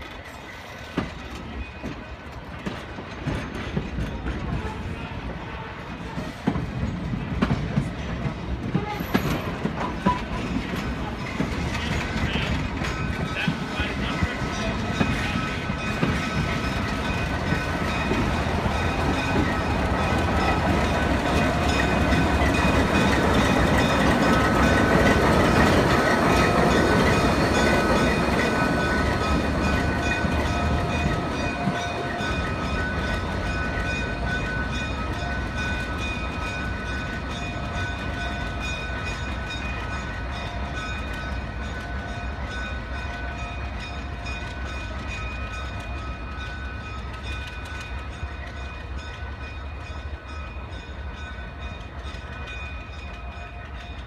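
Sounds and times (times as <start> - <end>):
diesel locomotive engine running: 6.0 - 54.0.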